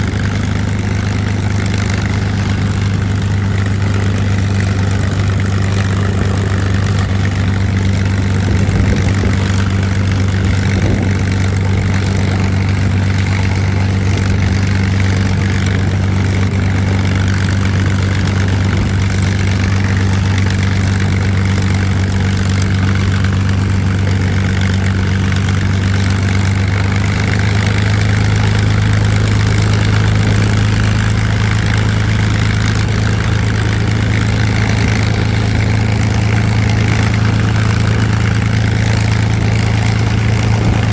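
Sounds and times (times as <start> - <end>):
aircraft engine idling: 0.0 - 40.9.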